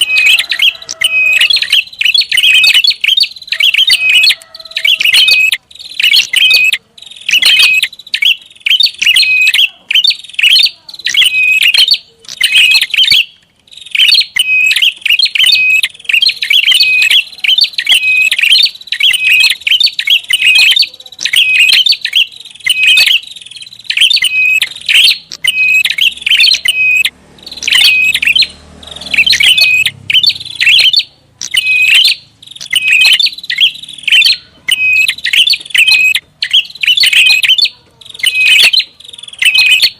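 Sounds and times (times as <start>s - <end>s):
bird rapid chirping: 0.0s - 39.9s.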